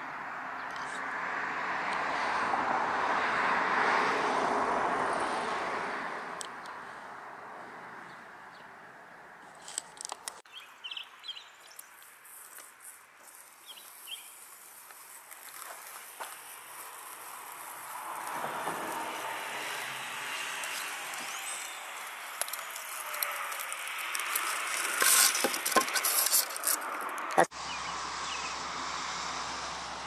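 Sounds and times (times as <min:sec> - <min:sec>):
vehicle passing by: 0:00.0 - 0:09.5, 0:15.4 - 0:30.0.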